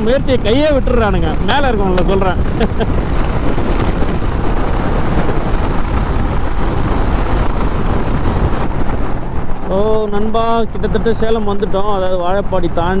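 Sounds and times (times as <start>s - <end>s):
motorcycle engine and road noise: 0.0s - 13.0s
wind rush on microphone: 0.0s - 13.0s.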